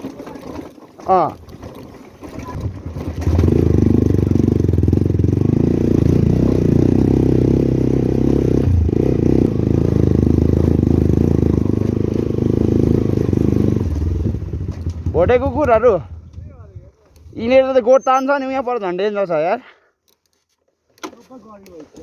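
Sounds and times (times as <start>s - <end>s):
motorcycle engine rumbling: 0.0s - 18.6s.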